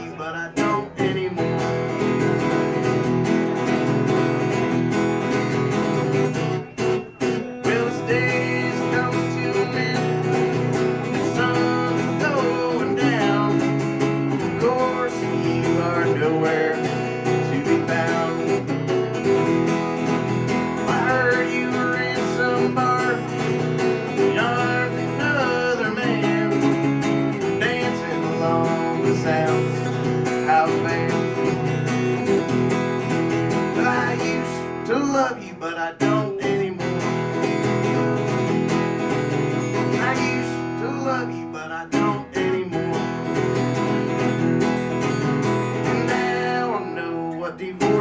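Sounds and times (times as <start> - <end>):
man singing: 0.0 - 3.1, 7.0 - 32.2, 33.0 - 38.2, 39.0 - 44.5, 45.6 - 48.0
strummed acoustic guitar: 0.0 - 48.0.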